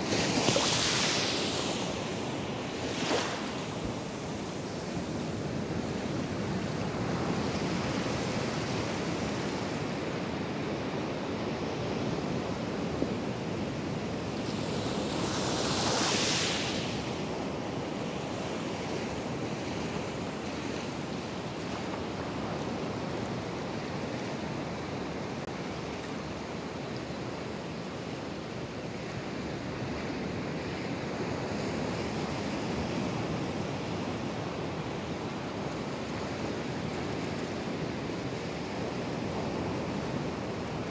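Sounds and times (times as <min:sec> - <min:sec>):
surf washing over shallows: 0:00.0 - 0:40.9.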